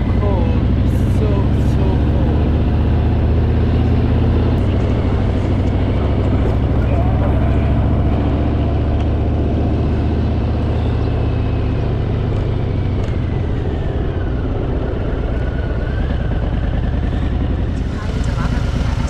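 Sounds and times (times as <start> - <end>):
motorcycle engine droning: 0.0 - 19.0
wind and road noise: 0.0 - 19.0.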